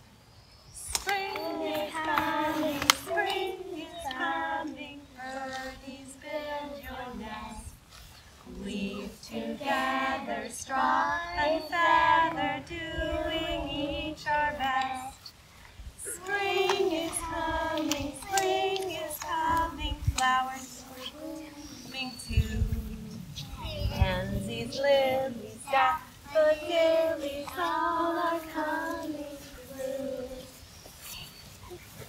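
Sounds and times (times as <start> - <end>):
children and women singing: 0.8 - 31.1.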